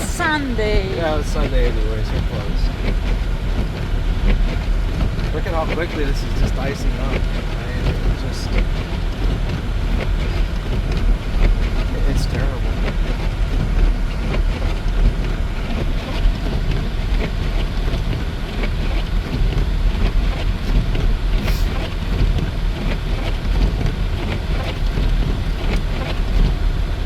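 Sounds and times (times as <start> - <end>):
car road and engine noise: 0.0 - 27.0
wind: 0.0 - 27.0.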